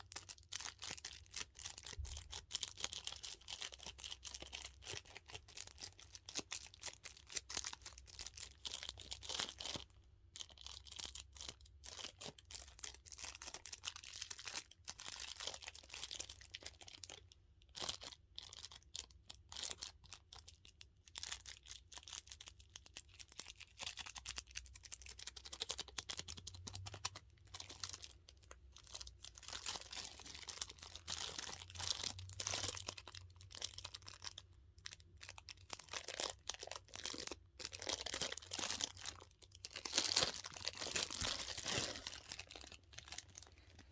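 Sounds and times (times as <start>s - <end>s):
plastic crinkling and crackling: 0.0s - 43.9s.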